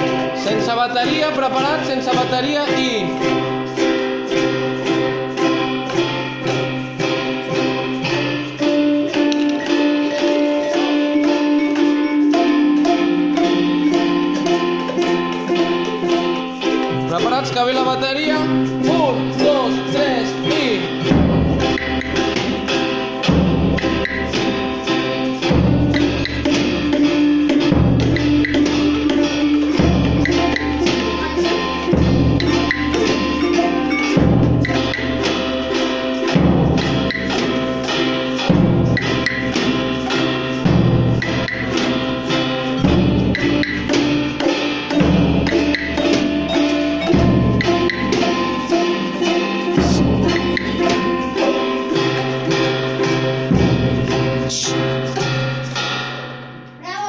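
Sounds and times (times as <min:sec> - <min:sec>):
boomwhackers and xylophones playing: 0:00.0 - 0:57.0.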